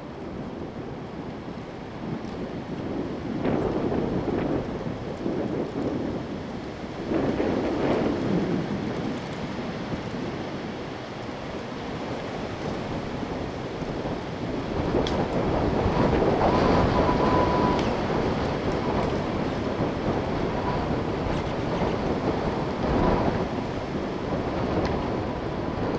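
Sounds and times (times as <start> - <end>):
wind gusting through trees: 0.0 - 25.9
wind buffeting microphone: 0.2 - 25.9.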